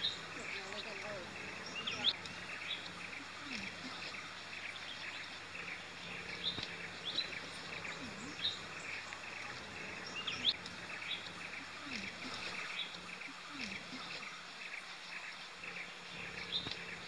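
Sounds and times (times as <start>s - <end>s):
birds and insects chirping: 0.0s - 17.0s.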